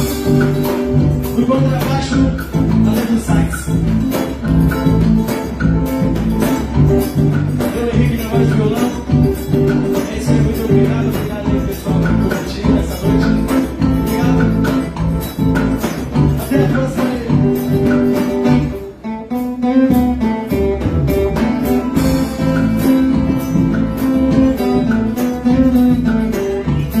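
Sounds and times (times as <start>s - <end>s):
acoustic guitar: 0.0s - 27.0s
band playing over a beat: 0.0s - 27.0s
bass: 0.0s - 27.0s.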